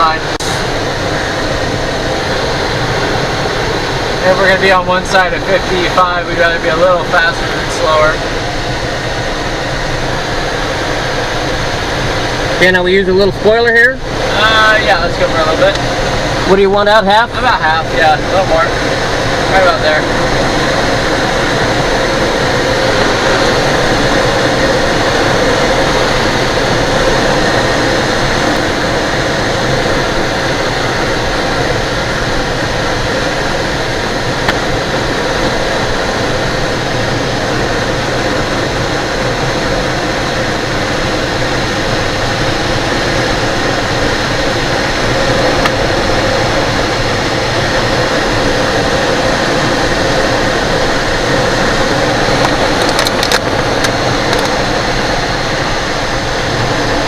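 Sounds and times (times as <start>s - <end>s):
airflow rushing past cockpit: 0.0s - 57.0s.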